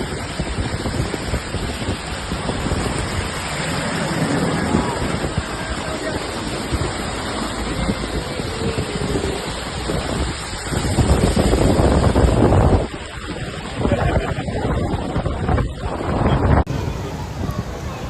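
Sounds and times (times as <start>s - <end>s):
heavy rain: 0.0s - 18.0s
running water: 0.0s - 18.0s
wind buffeting microphone: 0.0s - 18.0s.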